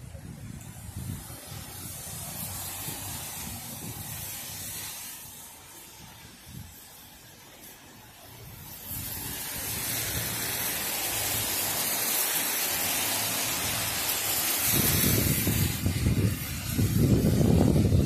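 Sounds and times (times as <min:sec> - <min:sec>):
car tyres hissing through water: 0:00.0 - 0:18.0.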